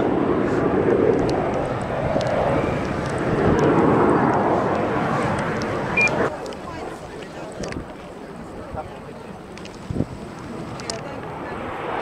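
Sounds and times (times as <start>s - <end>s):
jets rumbling overhead: 0.0s - 12.0s.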